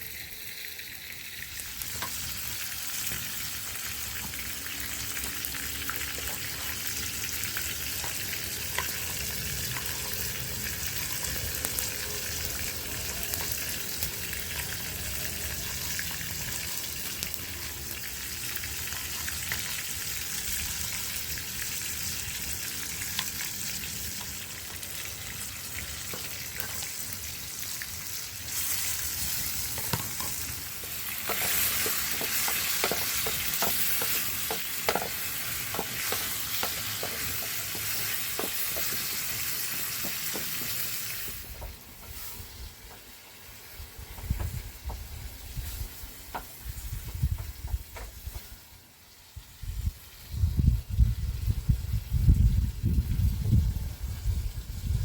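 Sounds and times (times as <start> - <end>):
food sizzling in a pan: 0.0 - 52.6.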